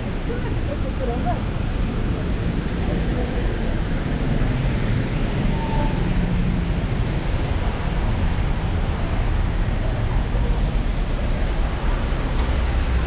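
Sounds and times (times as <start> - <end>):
city street traffic: 0.0 - 13.0
wind rumbling on microphone: 0.0 - 13.0.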